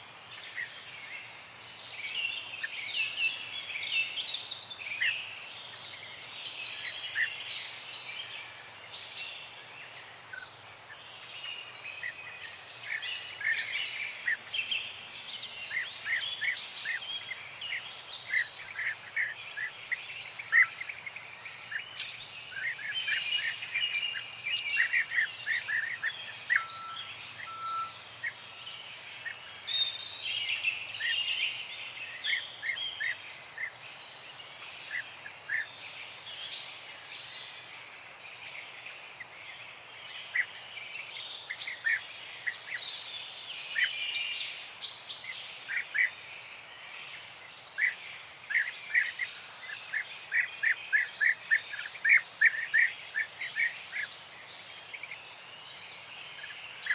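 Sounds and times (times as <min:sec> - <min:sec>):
faint steady hiss: 0:00.0 - 0:56.9
birds chirping and singing: 0:00.2 - 0:56.9.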